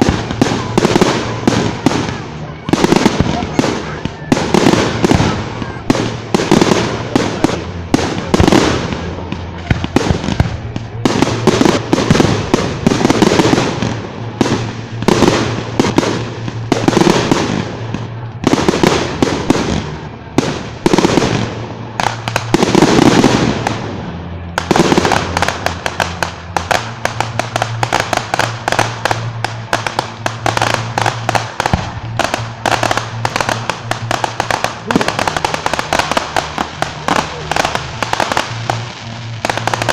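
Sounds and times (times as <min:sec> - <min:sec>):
rapid firework crackling: 0:00.0 - 0:39.9.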